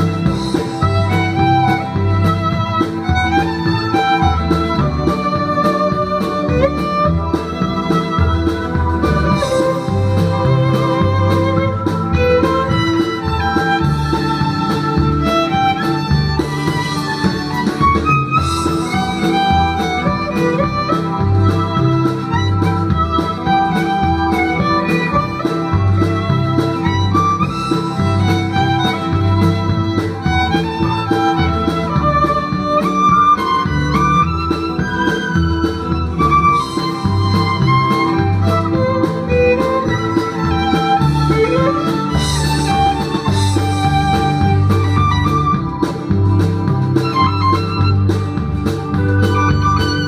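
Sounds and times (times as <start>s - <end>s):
double bass line: 0.0s - 50.0s
violin melody with vibrato: 0.0s - 50.0s.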